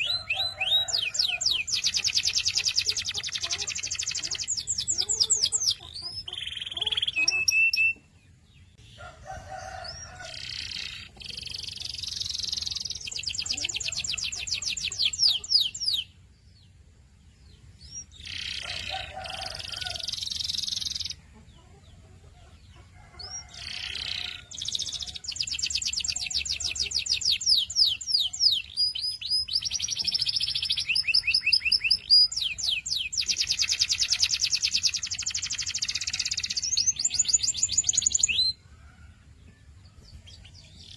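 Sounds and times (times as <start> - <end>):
canary singing trills: 0.0 - 16.3, 17.4 - 38.7, 39.9 - 40.9.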